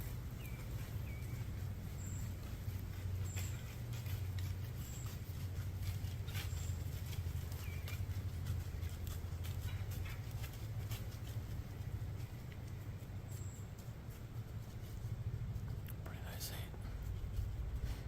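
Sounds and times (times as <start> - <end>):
light ticks and rustles: 0.0 - 18.0.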